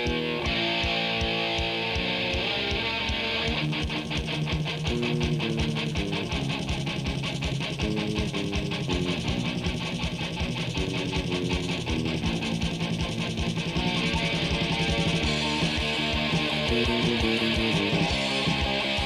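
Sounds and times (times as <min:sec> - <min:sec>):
electric guitar melodic line: 0:00.0 - 0:19.0
fast steady drum beat: 0:00.0 - 0:19.0.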